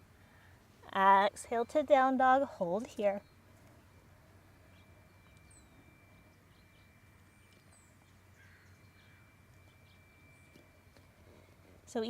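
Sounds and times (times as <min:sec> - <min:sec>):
faint steady hum: 0:00.0 - 0:12.0
faint high chirps: 0:01.5 - 0:12.0.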